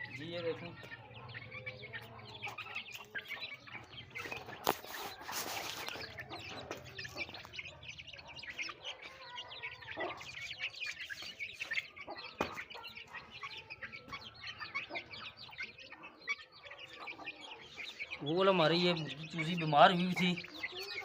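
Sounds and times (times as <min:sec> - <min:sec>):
chicks peeping: 0:00.0 - 0:21.0
hens clucking: 0:00.0 - 0:21.0.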